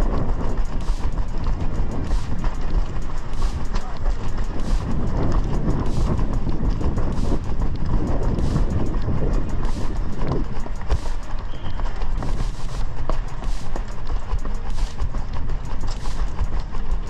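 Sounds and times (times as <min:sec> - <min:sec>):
running footsteps on pavement: 0:00.0 - 0:17.0
wind rumble on microphone: 0:00.0 - 0:17.0.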